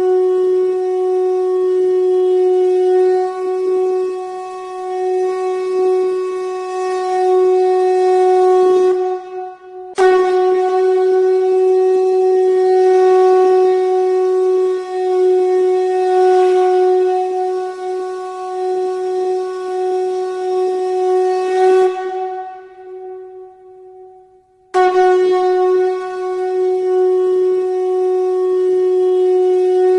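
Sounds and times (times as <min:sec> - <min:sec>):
conch shell blown: 0:00.0 - 0:29.9.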